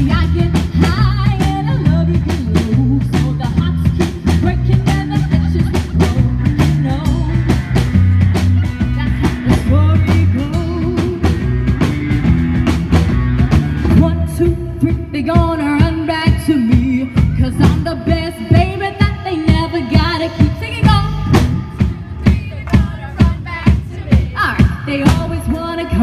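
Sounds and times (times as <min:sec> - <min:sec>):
bass guitar: 0:00.0 - 0:26.0
drum kit beat: 0:00.0 - 0:26.0.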